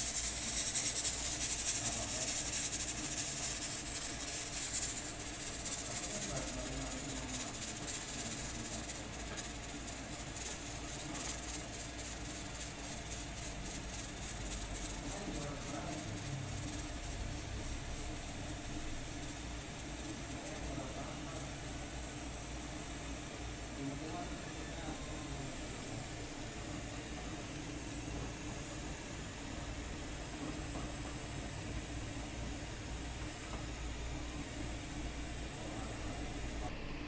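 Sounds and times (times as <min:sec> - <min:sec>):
pressure cooker steam hissing: 0:00.0 - 0:36.7.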